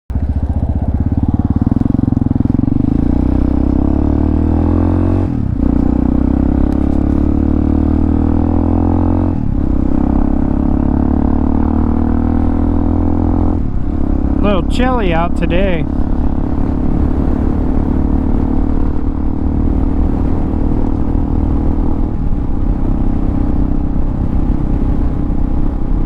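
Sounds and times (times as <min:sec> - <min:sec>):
motorcycle engine accelerating: 0:00.1 - 0:26.0.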